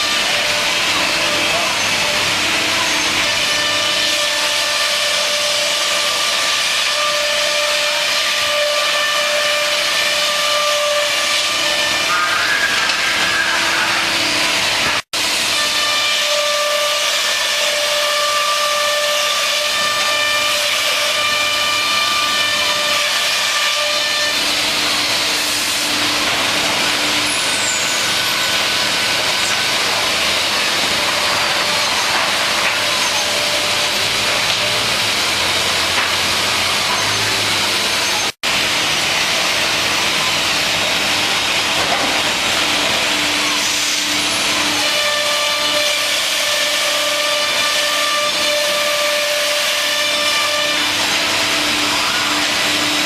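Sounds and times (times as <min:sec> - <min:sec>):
router machine loud hiss: 0:00.0 - 0:53.0.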